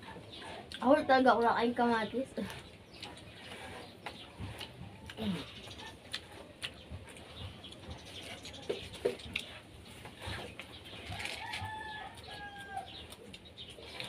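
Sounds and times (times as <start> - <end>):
chewing and lip-smacking: 0.0 - 0.9, 2.4 - 14.0.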